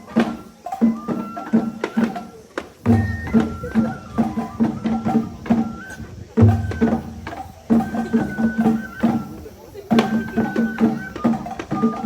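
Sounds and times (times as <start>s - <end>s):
heavy low drum stroke: 0.0s - 12.0s
high bamboo flute: 0.0s - 12.0s
taiko drum strokes: 0.0s - 12.0s.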